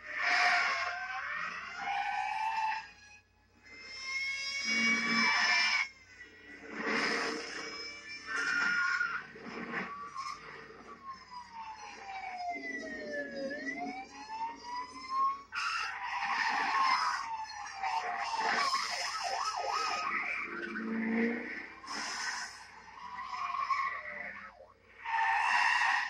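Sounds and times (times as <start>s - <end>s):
car engines and tyres: 0.0s - 26.0s
police sirens wailing: 0.0s - 26.0s.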